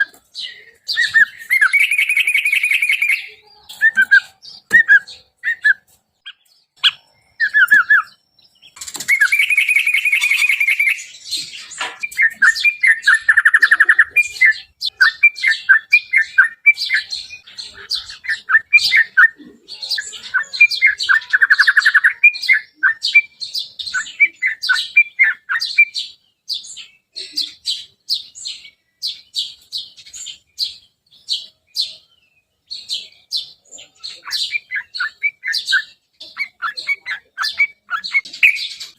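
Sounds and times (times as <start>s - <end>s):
birds chirping and chattering: 0.0s - 38.9s.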